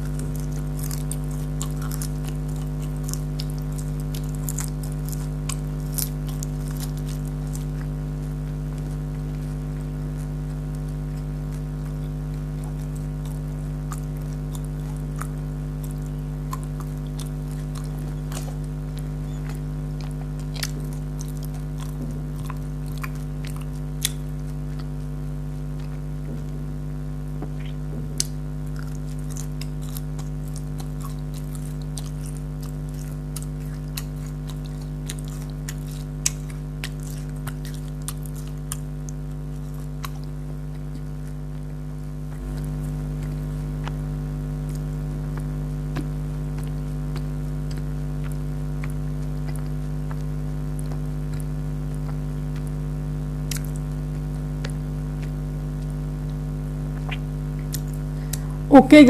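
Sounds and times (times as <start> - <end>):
chewing and biting: 0.0 - 58.7
electrical hum: 0.0 - 59.0
sticky mouth clicks: 0.0 - 59.0.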